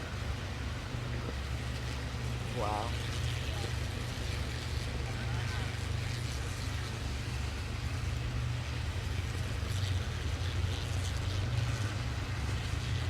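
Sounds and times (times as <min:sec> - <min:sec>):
faint crackles: 0:00.0 - 0:13.0.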